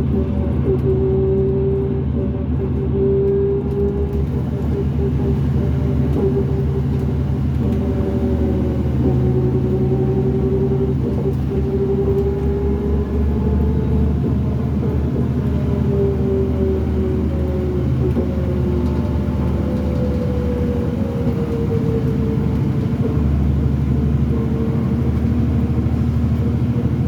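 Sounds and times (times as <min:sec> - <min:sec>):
diesel engine low drone: 0:00.0 - 0:27.0.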